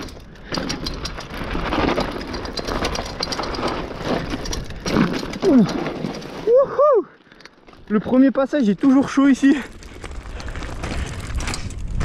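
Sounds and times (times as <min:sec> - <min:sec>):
bike rattling and clicking: 0:00.0 - 0:12.0
tyres crunching over stones: 0:00.0 - 0:12.0.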